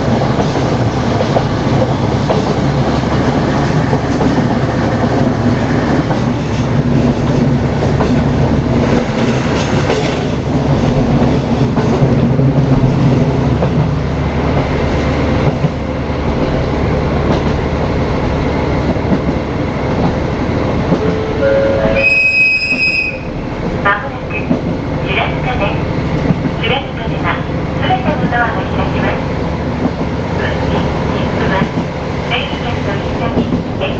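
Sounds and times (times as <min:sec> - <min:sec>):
train wheels clattering on rails: 0:00.0 - 0:21.2, 0:22.6 - 0:33.9
diesel railcar engine hum: 0:00.0 - 0:33.9.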